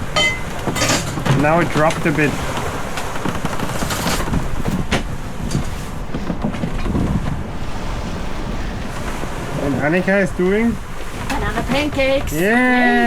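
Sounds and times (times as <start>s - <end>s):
rush of the sea: 0.0s - 13.0s
wind buffeting microphone: 0.0s - 13.0s.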